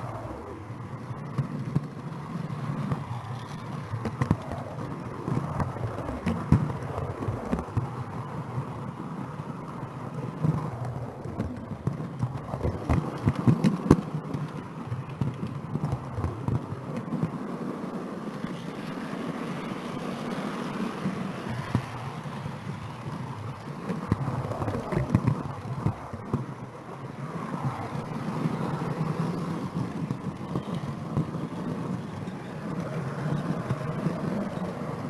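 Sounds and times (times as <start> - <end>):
model train wheels and motor: 0.0 - 35.0.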